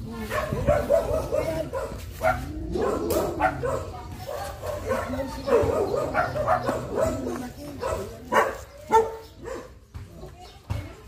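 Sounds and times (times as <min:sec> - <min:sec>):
dog barking and yipping: 0:00.2 - 0:09.8.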